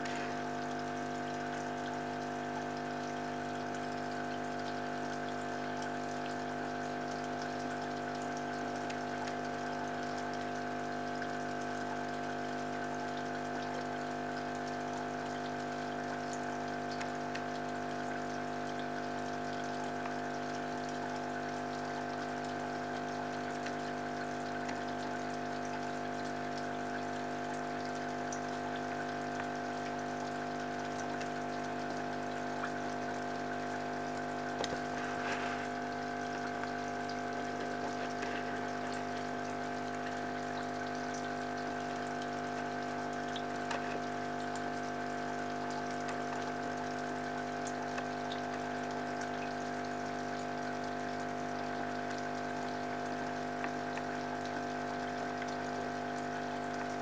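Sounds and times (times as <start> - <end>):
aquarium pump humming: 0.0 - 57.0
water trickling: 0.0 - 57.0.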